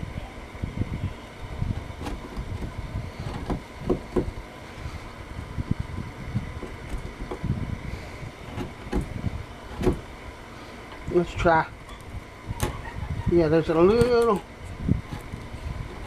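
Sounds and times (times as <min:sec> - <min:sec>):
low handling rumble: 0:00.0 - 0:16.0.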